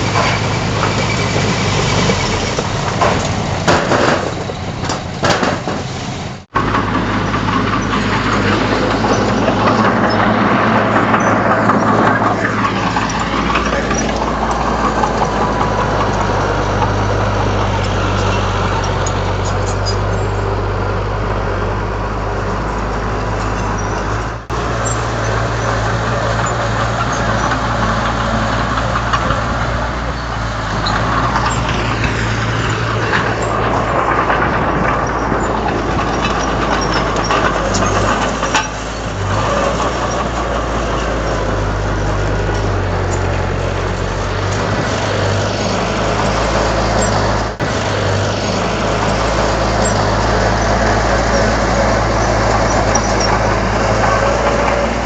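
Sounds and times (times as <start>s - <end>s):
metallic clanks: 0.0s - 20.6s, 22.7s - 55.0s
heavy diesel machinery running: 0.0s - 55.0s.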